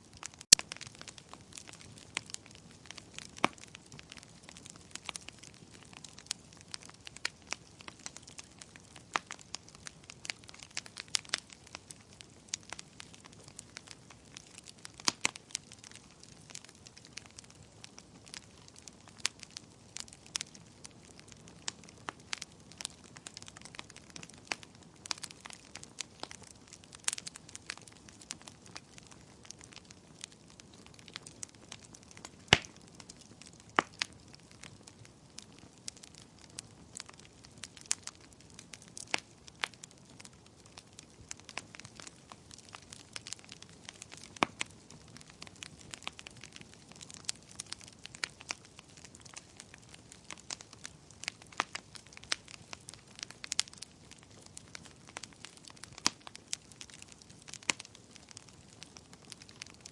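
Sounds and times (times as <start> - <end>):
bonfire crackling: 0.0 - 59.9.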